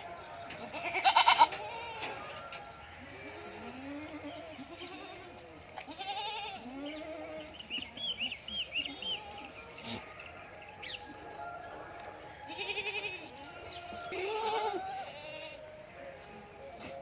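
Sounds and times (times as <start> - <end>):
goat kids bleating: 0.0 - 2.4, 3.0 - 10.2, 12.4 - 17.0.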